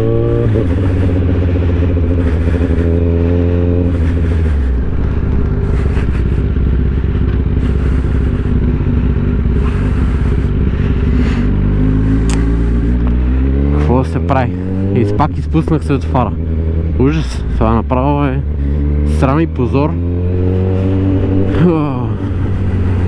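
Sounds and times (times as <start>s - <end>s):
motorcycle engine riding: 0.0s - 23.0s.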